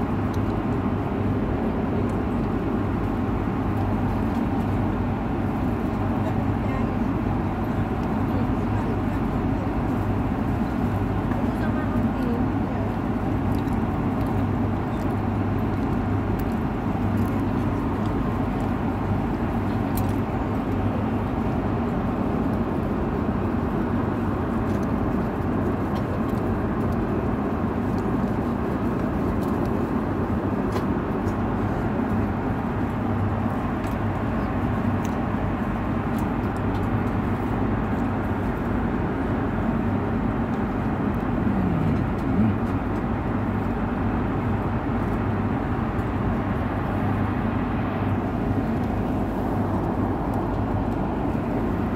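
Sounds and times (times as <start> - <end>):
airliner cabin drone: 0.0 - 51.9.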